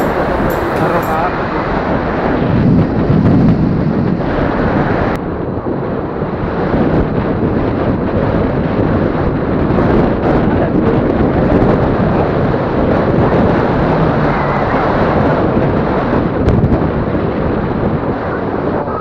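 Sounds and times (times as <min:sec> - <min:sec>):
motorcycle engine and road noise: 0:00.0 - 0:19.0
wind buffeting microphone: 0:00.0 - 0:19.0.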